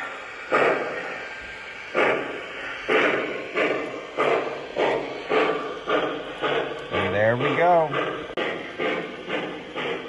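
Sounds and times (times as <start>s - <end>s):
model locomotive steam chuffs: 0.0s - 10.0s.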